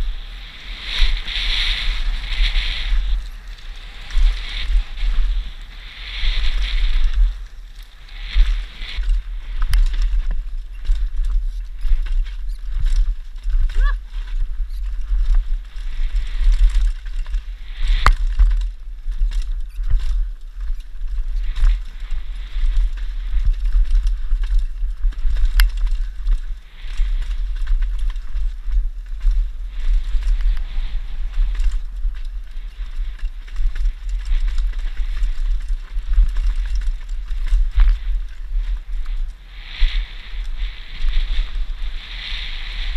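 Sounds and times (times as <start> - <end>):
tyres crunching over loose dirt: 0.0 - 42.0
bike clattering and rattling: 0.0 - 42.9
wind rumble on microphone: 0.0 - 42.9.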